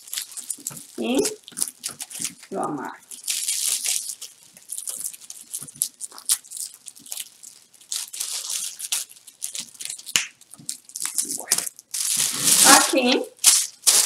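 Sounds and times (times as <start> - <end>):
gift wrap crinkling and rustling: 0.0 - 14.0.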